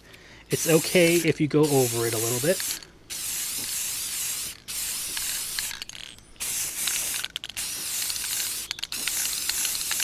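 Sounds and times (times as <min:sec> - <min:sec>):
spray paint can hissing: 0:00.6 - 0:10.0.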